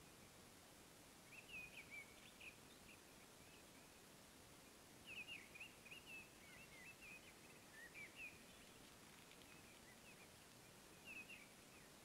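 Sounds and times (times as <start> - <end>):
outdoor background hiss: 0.0 - 12.0
faint songbird twittering: 1.2 - 12.0.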